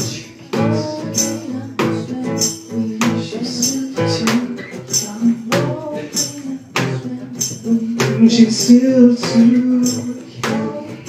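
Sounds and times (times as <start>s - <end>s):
strummed acoustic guitar: 0.0s - 11.0s
tambourine beat: 0.0s - 11.0s.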